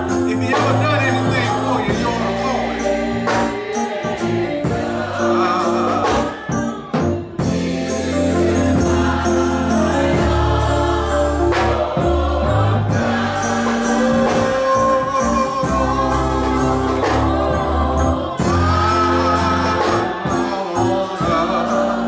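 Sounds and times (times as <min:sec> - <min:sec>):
bass line: 0:00.0 - 0:22.0
choir singing: 0:00.0 - 0:22.0
keyboard chords: 0:00.0 - 0:22.0.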